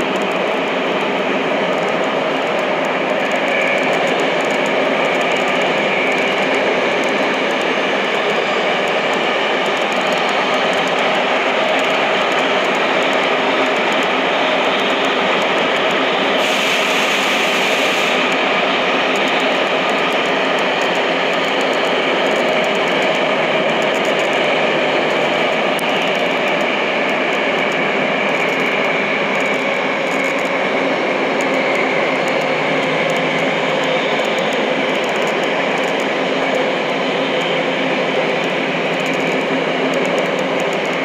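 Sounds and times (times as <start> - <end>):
subway train wheels rumbling on rail: 0.0 - 41.0.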